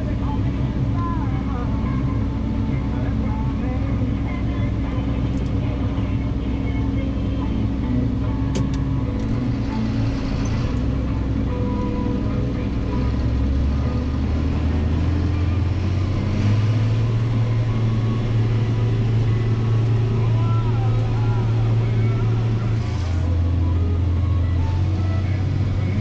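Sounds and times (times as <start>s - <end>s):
harvester engine running: 0.0s - 26.0s.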